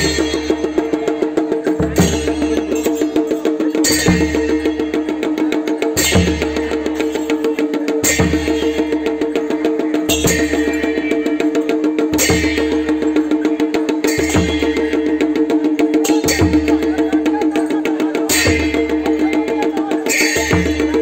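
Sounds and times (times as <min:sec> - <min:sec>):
brass hand cymbals clashing: 0:00.0 - 0:21.0
folk drumming in fast rhythm: 0:00.0 - 0:21.0.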